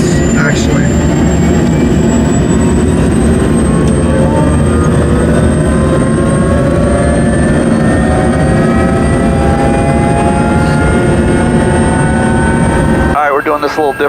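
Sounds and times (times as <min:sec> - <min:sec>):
helicopter engine and rotor: 0:00.0 - 0:14.0
rising whine: 0:00.0 - 0:14.0.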